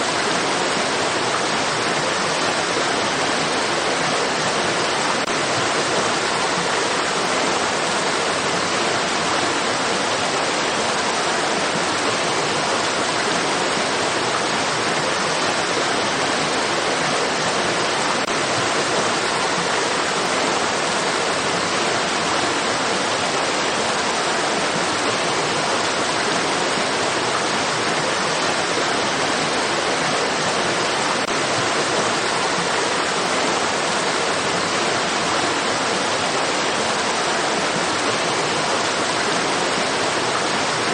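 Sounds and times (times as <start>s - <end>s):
rushing stream water: 0.0s - 40.9s.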